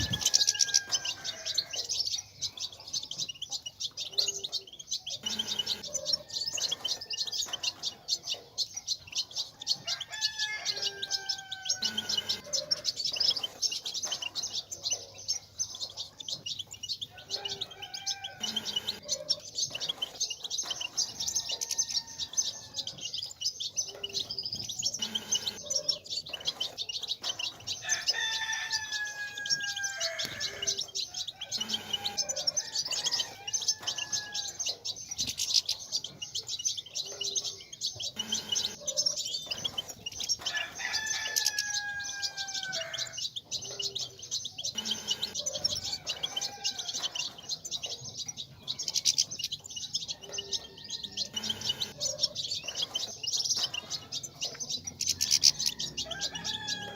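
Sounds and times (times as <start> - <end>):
finches twittering: 0.0 - 56.9.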